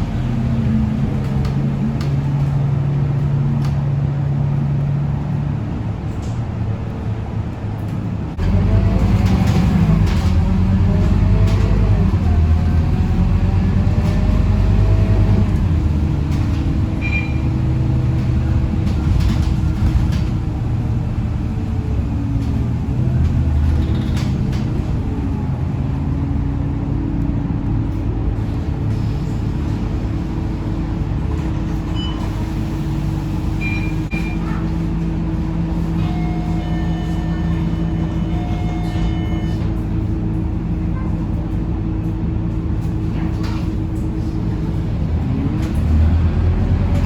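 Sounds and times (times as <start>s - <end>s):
bus engine running: 0.0s - 47.0s
road noise: 0.0s - 47.0s.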